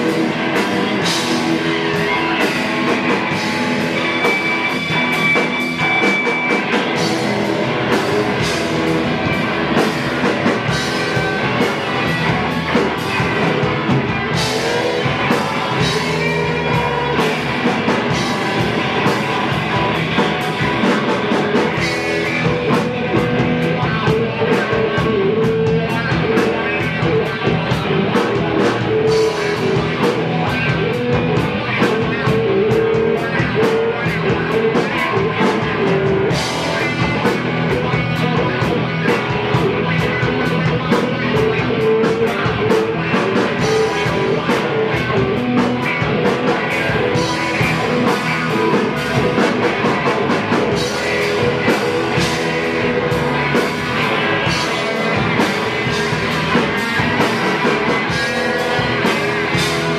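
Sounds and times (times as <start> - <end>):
drum kit beat: 0.0 - 59.9
electric bass: 0.0 - 59.9
electric guitars: 0.0 - 59.9.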